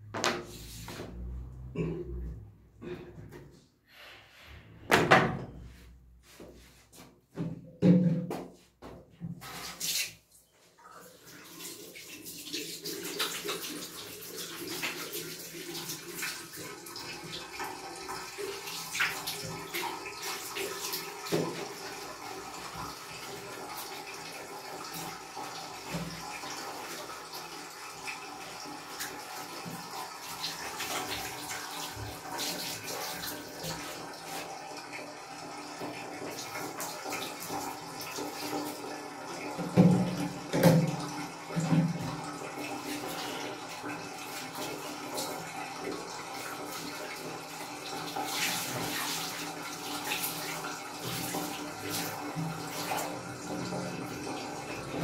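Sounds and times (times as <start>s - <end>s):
water running in bathtub: 9.2s - 55.0s.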